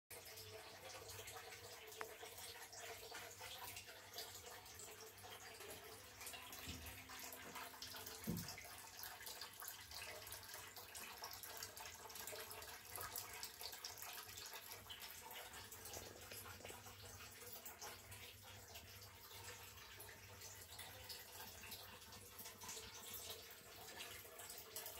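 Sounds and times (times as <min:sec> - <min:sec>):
water trickling and dripping: 0:00.1 - 0:24.9.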